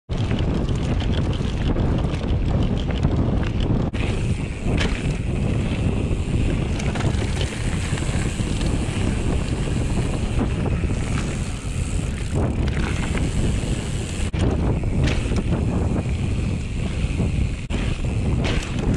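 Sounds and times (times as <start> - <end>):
bike rattling over bumps: 0.1 - 18.9
wind on microphone: 0.1 - 18.9.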